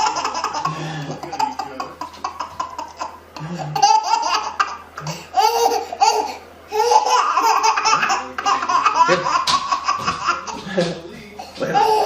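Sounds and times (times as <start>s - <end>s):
baby laughing: 0.0s - 12.0s.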